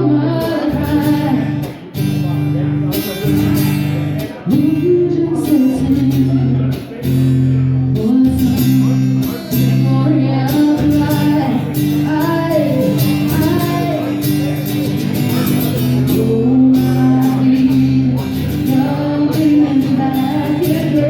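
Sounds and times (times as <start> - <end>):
woman singing slow rock song: 0.0 - 2.5, 4.4 - 21.0
guitar accompaniment: 0.0 - 21.0.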